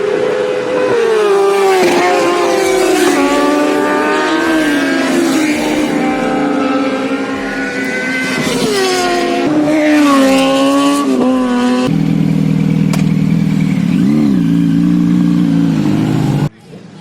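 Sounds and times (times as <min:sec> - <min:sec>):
motorcycle engines revving and passing: 0:00.0 - 0:16.5.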